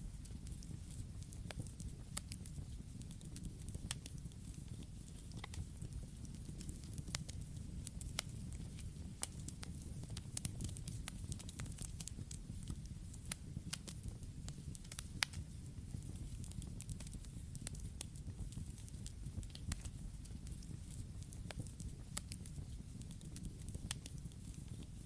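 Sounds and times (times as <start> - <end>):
low rumble of flames: 0.0 - 25.0
campfire crackling: 0.1 - 25.0.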